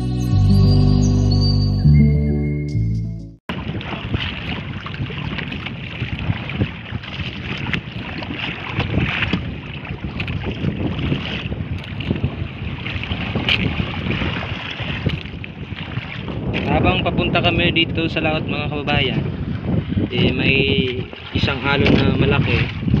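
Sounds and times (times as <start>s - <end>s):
water lapping against boat: 3.5s - 23.0s
wind buffeting microphone: 3.5s - 23.0s.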